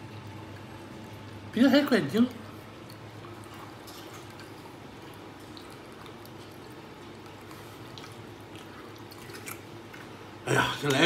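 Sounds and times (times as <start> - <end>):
liquid trickling into bowl: 0.0 - 11.0.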